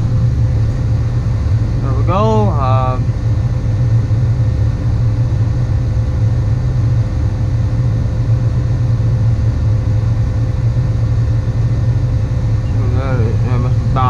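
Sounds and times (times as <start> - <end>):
faint steady whine: 0.0 - 14.0
tractor engine drone: 0.0 - 14.0.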